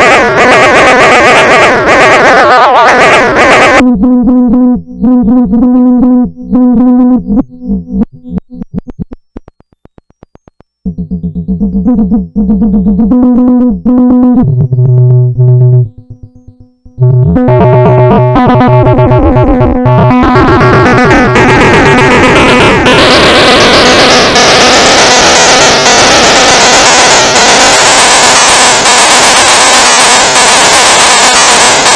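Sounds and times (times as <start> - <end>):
synthesizer playing buzzy notes: 0.0 - 10.0, 10.8 - 31.9.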